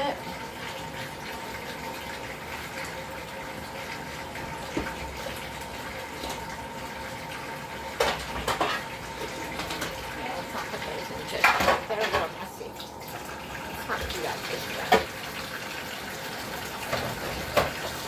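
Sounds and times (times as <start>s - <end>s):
dishwasher water spraying: 0.0s - 18.0s
faint motor hum: 0.0s - 18.0s.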